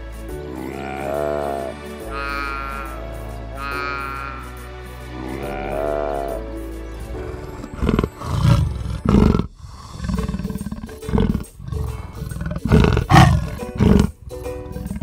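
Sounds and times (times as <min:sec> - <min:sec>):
soft background music: 0:00.0 - 0:15.0
big cat roaring and growling: 0:00.5 - 0:04.4, 0:05.2 - 0:06.5, 0:07.1 - 0:15.0.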